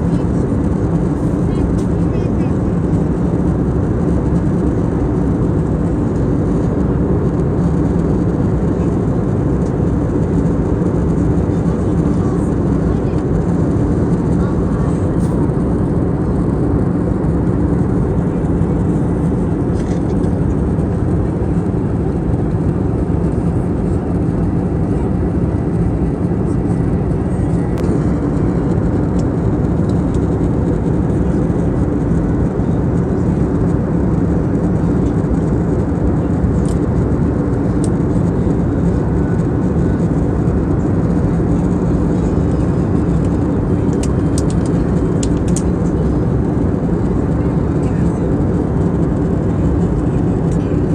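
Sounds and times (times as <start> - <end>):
airliner cabin drone: 0.0 - 50.9
low hum: 0.0 - 50.9.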